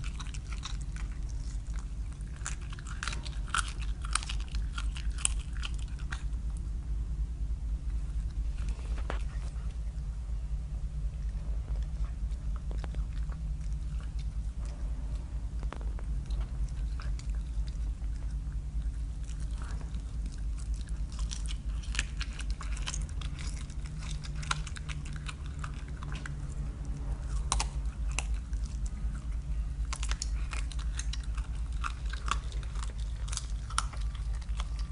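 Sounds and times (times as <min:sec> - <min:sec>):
animal chewing raw meat: 0:00.0 - 0:06.6, 0:10.9 - 0:34.9.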